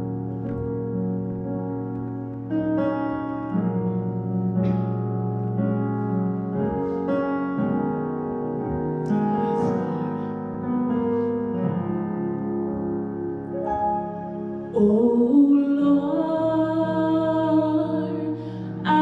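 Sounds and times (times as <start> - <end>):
keyboard playing slow chords: 0.0 - 19.0.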